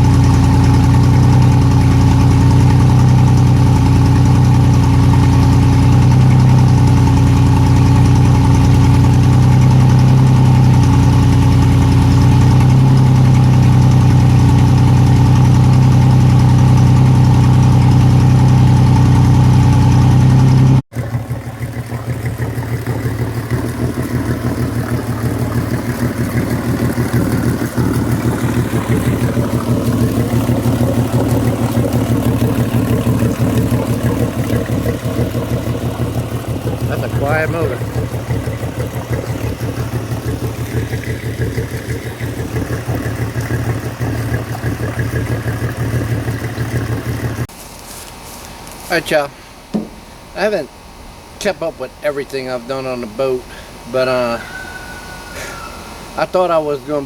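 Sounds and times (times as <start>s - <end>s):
outboard motor idling: 0.0s - 57.0s.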